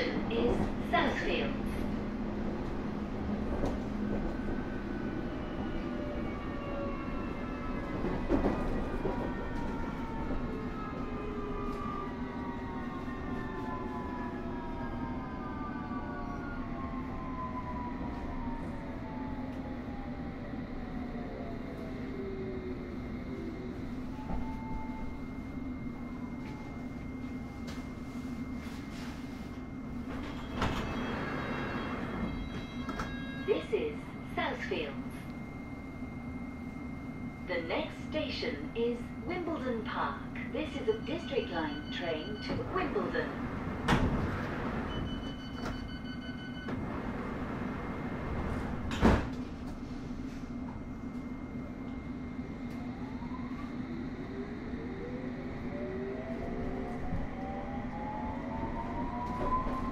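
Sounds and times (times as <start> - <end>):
train hum with high tone: 0.0 - 59.9.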